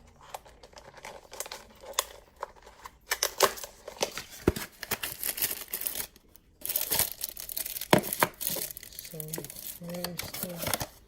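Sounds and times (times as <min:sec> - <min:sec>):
packaging clicks and crinkles: 0:00.0 - 0:11.0
packaging rustling: 0:00.0 - 0:11.0.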